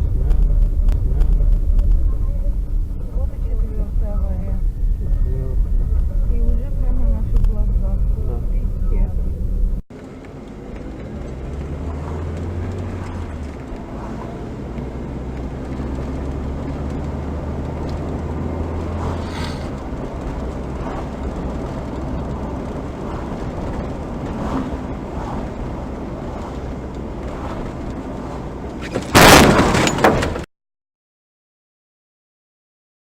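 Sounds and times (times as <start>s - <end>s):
car road and engine noise: 0.0s - 30.5s.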